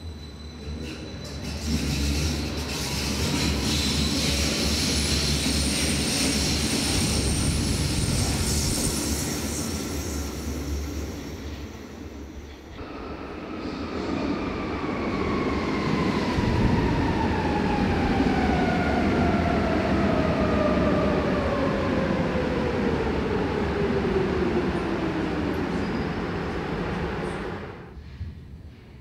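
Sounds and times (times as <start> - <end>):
subway train rolling rumble: 0.0 - 29.0.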